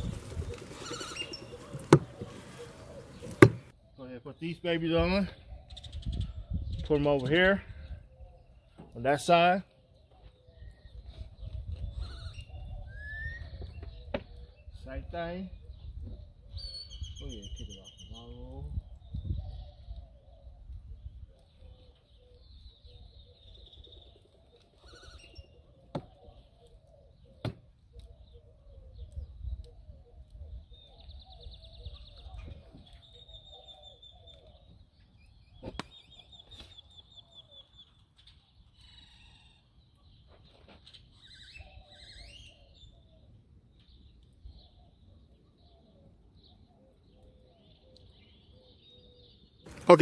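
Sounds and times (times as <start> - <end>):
birds chirping and trilling: 0.0 - 50.0.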